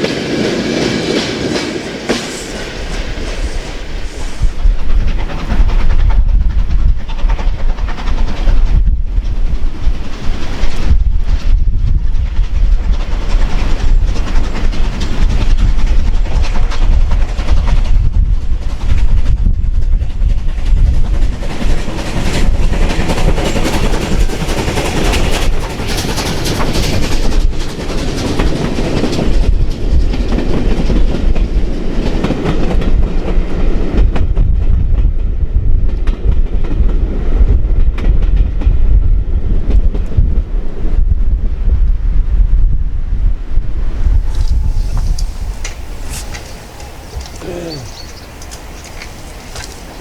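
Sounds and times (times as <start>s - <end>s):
train passing: 0.0s - 50.0s
wheels clicking over rail joints: 4.7s - 40.8s, 44.1s - 50.0s.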